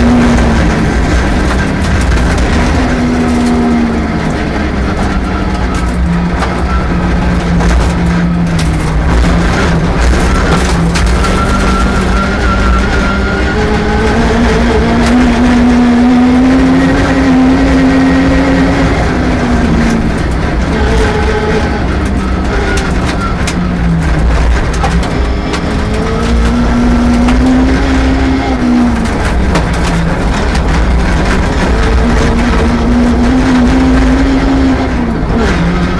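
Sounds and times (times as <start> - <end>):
car engine revving high: 0.0 - 35.9.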